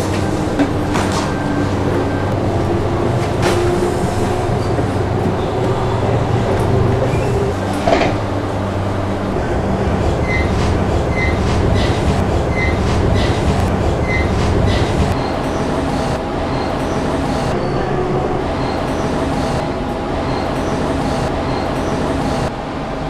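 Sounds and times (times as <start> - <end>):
vehicle rumbling: 0.0 - 23.0.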